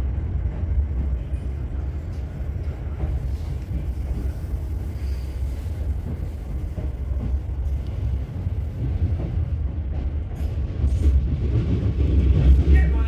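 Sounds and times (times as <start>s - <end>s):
train cabin rolling rumble: 0.0s - 13.0s.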